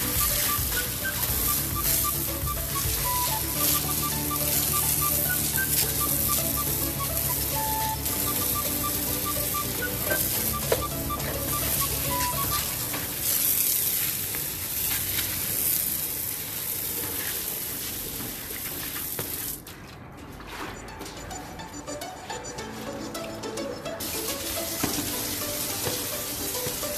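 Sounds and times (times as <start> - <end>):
hose spraying water on tiles: 0.0 - 20.0, 24.0 - 26.9.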